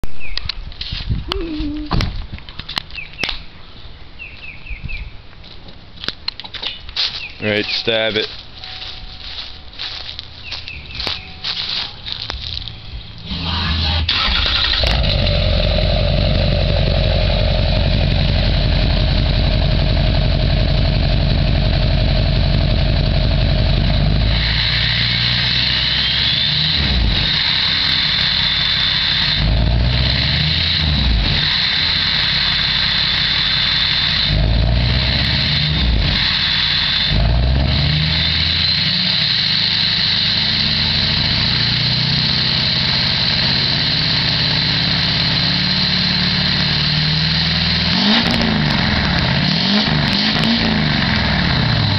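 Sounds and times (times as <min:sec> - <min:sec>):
high whine: 0:07.4 - 0:51.9
diesel engine idling and revving: 0:09.3 - 0:51.9.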